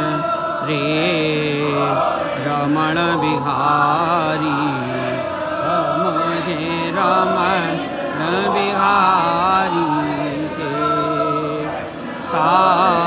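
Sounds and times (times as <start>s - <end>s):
person singing devotional song: 0.0s - 13.0s.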